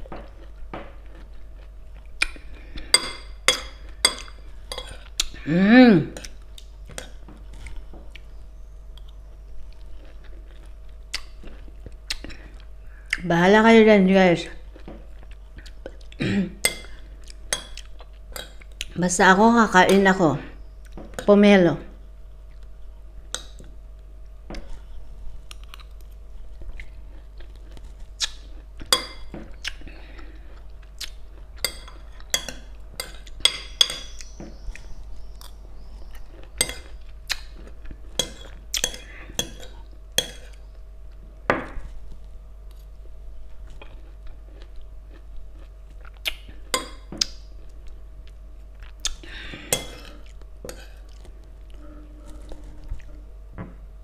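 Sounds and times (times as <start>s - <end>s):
person chewing fruit: 0.0s - 13.4s, 14.5s - 19.2s, 19.9s - 21.3s, 22.4s - 54.0s
faint steady hum: 0.0s - 54.0s.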